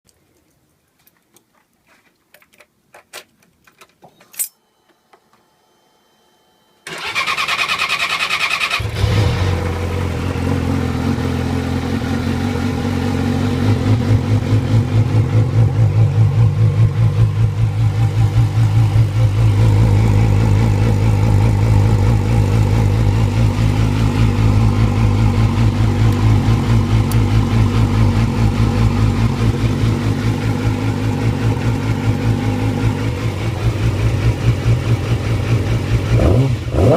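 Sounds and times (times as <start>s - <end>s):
motorcycle engine starting and idling: 6.8s - 36.9s.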